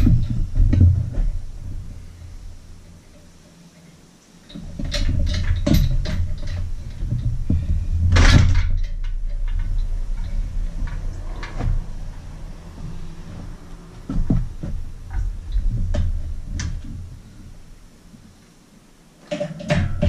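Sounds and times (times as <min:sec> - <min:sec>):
metal knocks and clanks: 0:00.0 - 0:02.1, 0:04.5 - 0:17.7, 0:19.2 - 0:20.0
steady low hum: 0:00.0 - 0:20.0.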